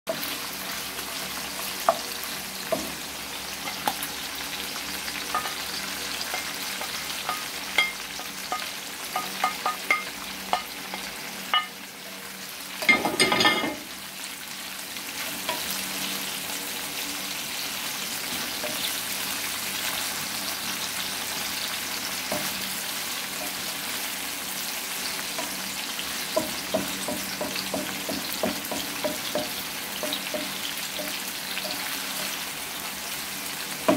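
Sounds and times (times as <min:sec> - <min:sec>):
fish sizzling in a frying pan: 0:00.1 - 0:33.9.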